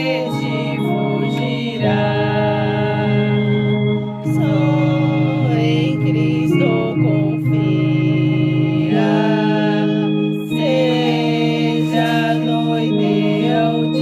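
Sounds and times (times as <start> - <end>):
organ playing hymn chords: 0.0 - 14.0
person singing: 0.0 - 14.0.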